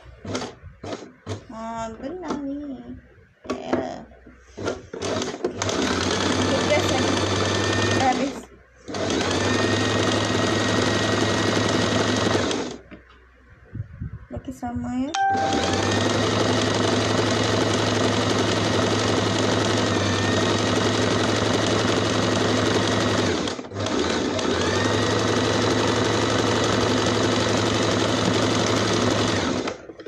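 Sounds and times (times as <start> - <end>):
sewing machine running: 0.2 - 1.5, 4.6 - 12.8, 15.2 - 30.0.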